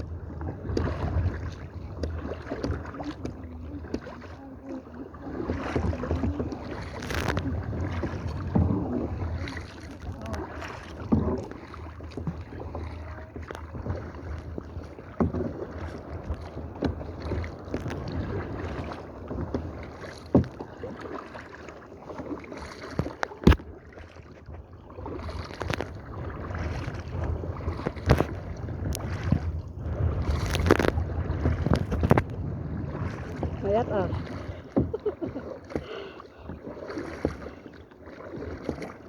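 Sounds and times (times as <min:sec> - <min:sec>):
paddle splashing in water: 0:00.0 - 0:39.0.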